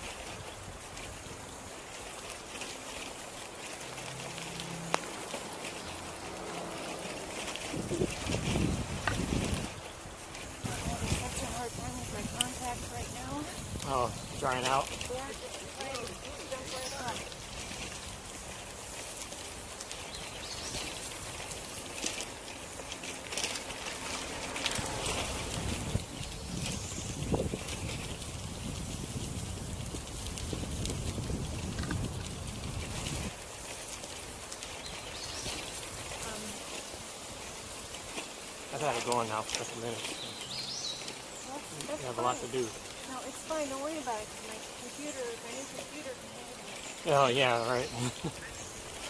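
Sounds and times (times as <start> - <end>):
bicycle tyres rolling on gravel: 0.0 - 49.0
wind rumbling on microphone: 0.0 - 49.0.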